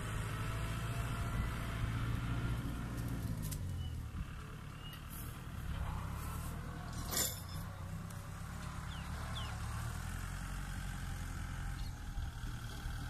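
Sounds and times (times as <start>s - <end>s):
distant tractor engine running: 0.0s - 13.0s.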